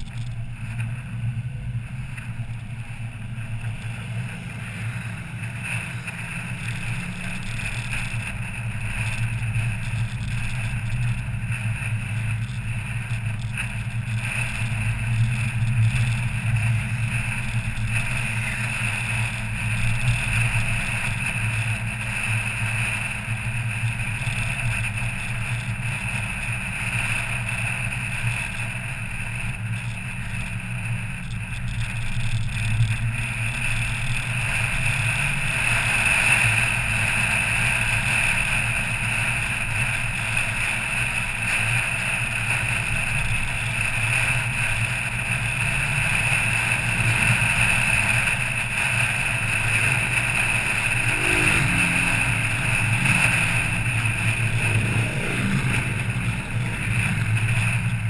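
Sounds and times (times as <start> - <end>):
car engine drone: 0.0 - 58.0
road and wind noise: 0.0 - 58.0.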